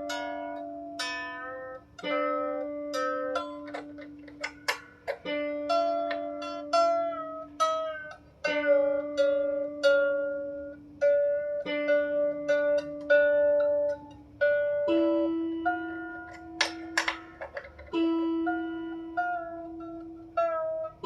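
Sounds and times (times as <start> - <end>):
harp string plucked: 0.0 - 9.3, 12.5 - 21.0.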